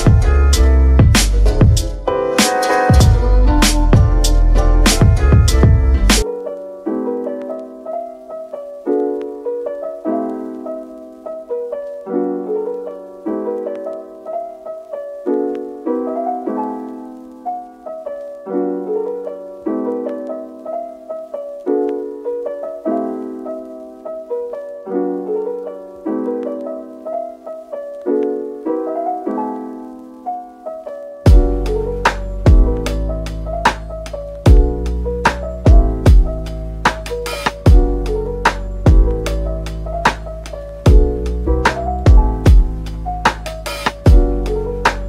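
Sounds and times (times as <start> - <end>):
soft piano chords: 0.0 - 45.0.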